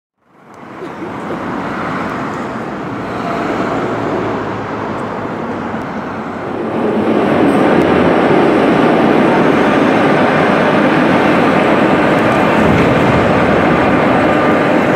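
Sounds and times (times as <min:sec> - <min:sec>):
metro train at platform: 0:00.2 - 0:14.9
street traffic noise: 0:00.2 - 0:14.9.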